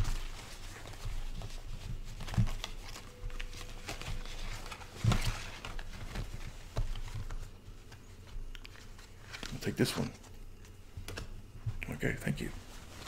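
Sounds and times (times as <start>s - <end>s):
cards shifting in a bag: 0.0s - 10.8s
fabric rustling: 0.0s - 11.8s, 12.4s - 13.0s.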